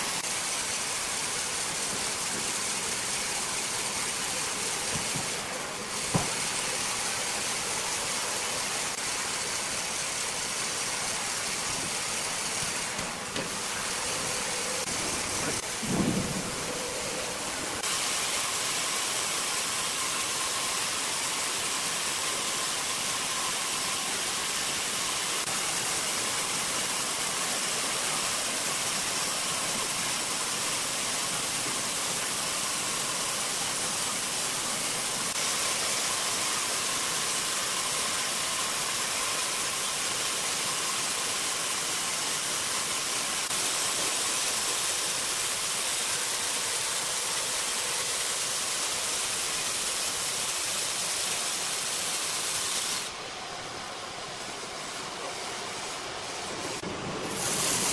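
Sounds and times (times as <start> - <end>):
band saw cutting log: 0.0 - 53.2, 54.4 - 57.9.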